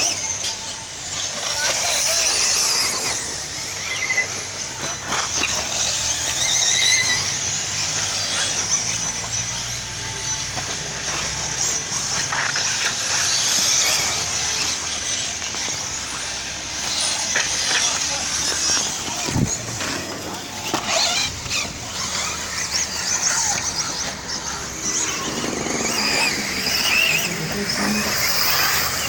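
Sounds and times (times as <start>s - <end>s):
rc buggy motors whining: 0.0s - 29.0s.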